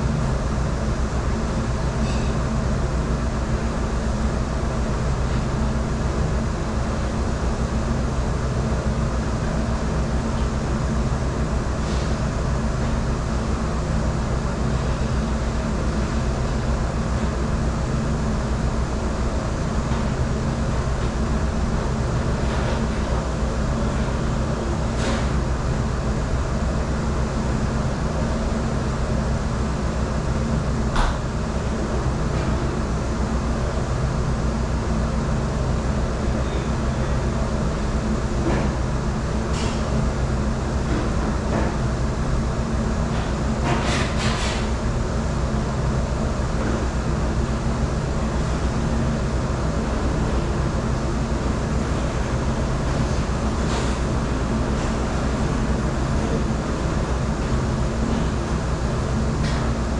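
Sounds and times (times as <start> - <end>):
dishwashing machine drone: 0.0 - 59.9.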